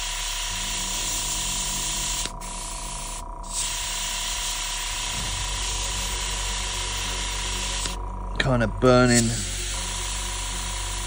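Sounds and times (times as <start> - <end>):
airbrush hissing: 0.0 - 8.0, 8.9 - 11.0.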